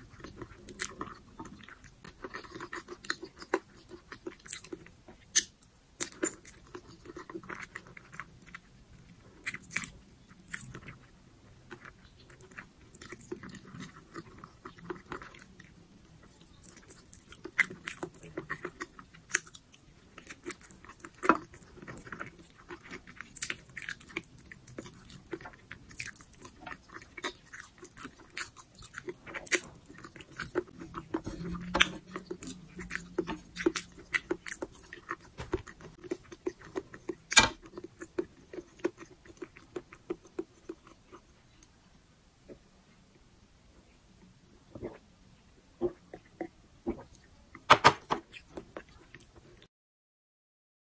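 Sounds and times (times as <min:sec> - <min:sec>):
close chewing and mouth smacks: 0:00.0 - 0:41.8, 0:44.6 - 0:49.7.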